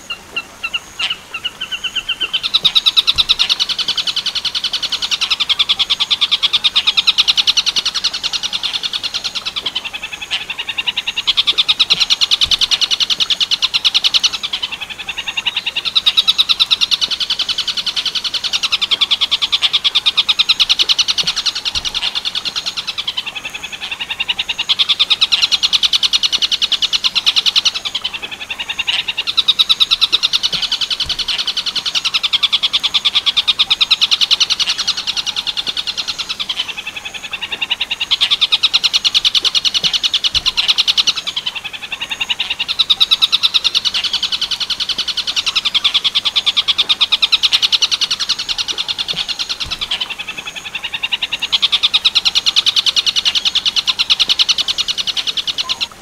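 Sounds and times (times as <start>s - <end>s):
kingfisher rattling call: 0.0s - 56.0s.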